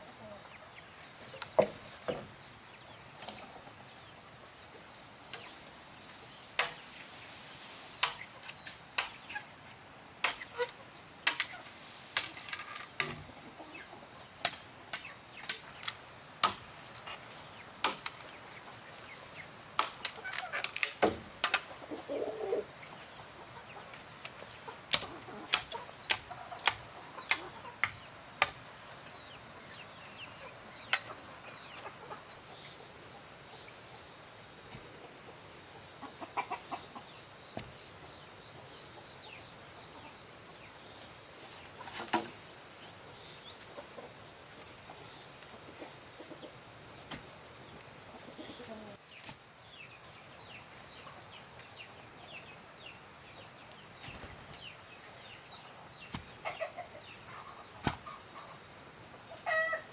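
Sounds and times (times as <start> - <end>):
chickens clucking and chirping: 0.0 - 59.9.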